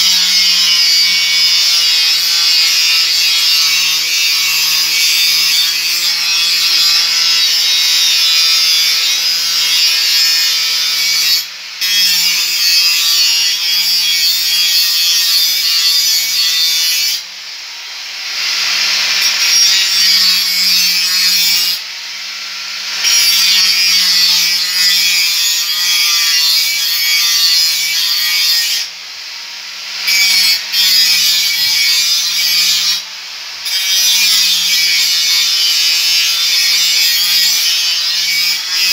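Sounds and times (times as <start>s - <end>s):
angle grinder cutting metal pipe: 0.0s - 38.9s.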